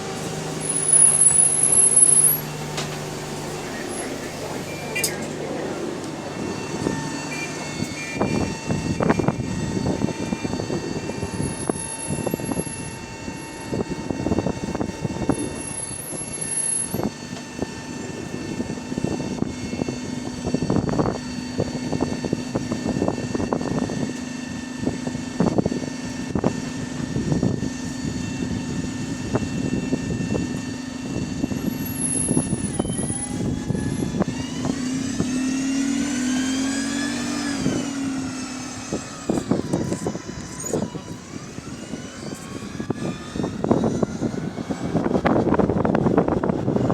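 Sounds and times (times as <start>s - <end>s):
bus engine running: 0.0s - 46.9s
rising gearbox whine: 0.0s - 46.9s.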